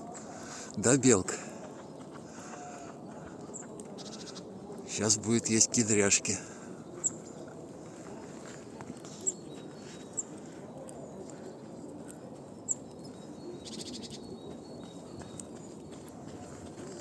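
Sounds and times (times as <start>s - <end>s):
outdoor park ambience: 0.0s - 17.0s.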